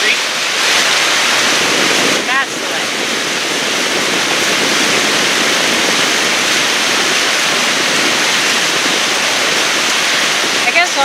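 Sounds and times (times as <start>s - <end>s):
water spray rushing: 0.0s - 11.0s
wind rushing past: 0.1s - 11.0s.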